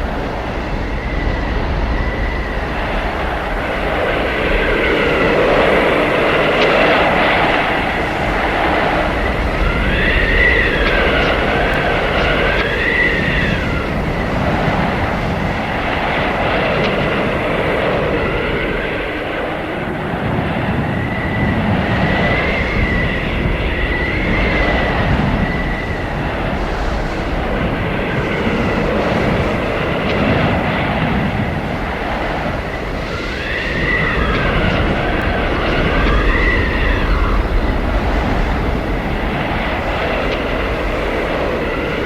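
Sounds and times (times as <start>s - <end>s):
howling blizzard wind: 0.0s - 42.0s.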